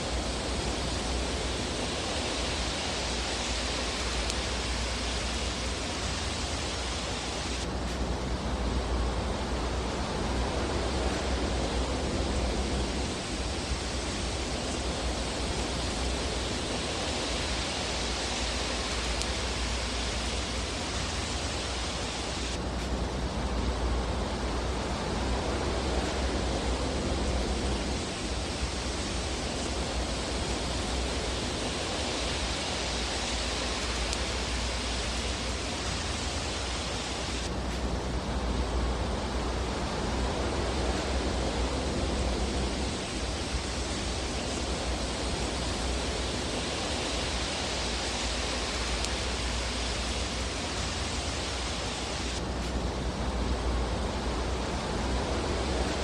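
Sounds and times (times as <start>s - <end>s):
fireplace fire hissing and rumbling: 0.0s - 56.0s.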